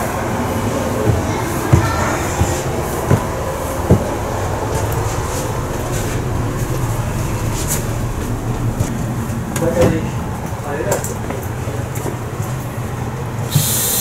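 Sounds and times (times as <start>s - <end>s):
background hubbub: 0.0s - 13.5s
footsteps on carpeted stairs: 0.0s - 13.7s
ventilation rumble: 0.0s - 13.9s.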